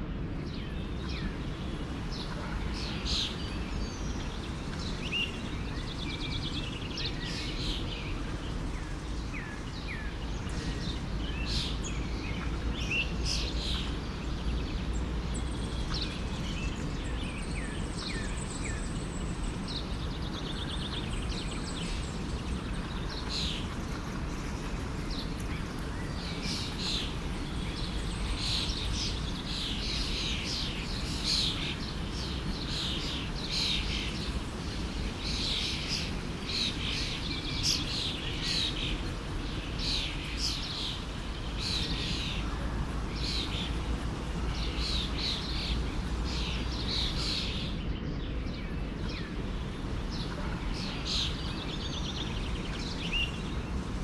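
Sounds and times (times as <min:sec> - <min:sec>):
small birds chirping: 0:00.4 - 0:54.0
forest stream running: 0:00.5 - 0:47.8, 0:48.4 - 0:54.0.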